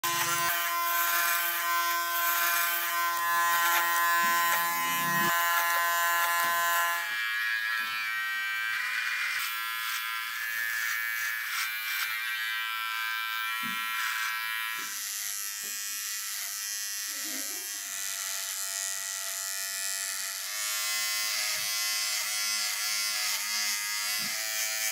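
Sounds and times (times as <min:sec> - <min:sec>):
electric hair clippers buzzing: 0:00.0 - 0:24.9.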